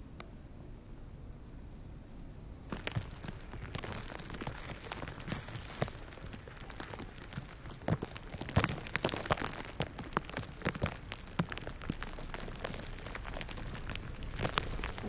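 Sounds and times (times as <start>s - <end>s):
faint steady hiss: 0.0s - 15.0s
wet snow pattering on leaves: 2.6s - 15.0s.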